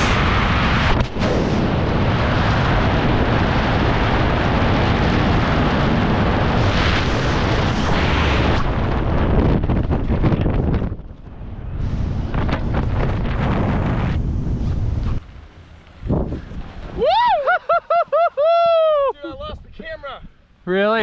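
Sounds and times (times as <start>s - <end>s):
wind rushing over microphone: 0.0s - 20.4s.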